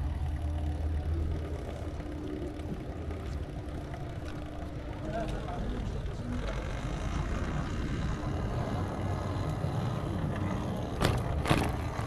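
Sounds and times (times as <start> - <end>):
vehicle rumbling on the move: 0.0 - 12.0.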